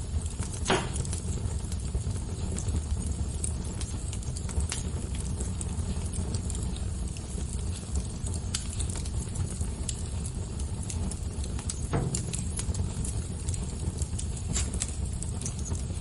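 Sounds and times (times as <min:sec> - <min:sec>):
fire crackling: 0:00.0 - 0:16.0
fire pops and snaps: 0:00.0 - 0:16.0
low rumble of fire: 0:00.0 - 0:16.0.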